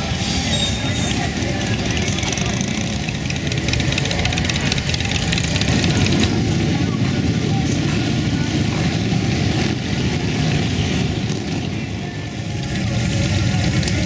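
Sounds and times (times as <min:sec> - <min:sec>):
motorcycle engines rumbling: 0:00.0 - 0:14.0.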